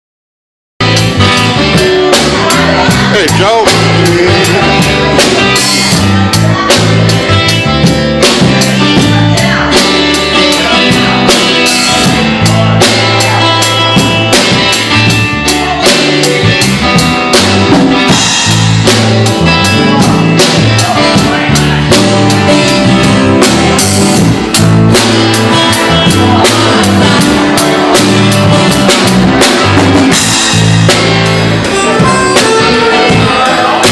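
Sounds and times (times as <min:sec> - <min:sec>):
drum kit beat: 0:00.8 - 0:33.9
rock band playing live: 0:00.8 - 0:33.9.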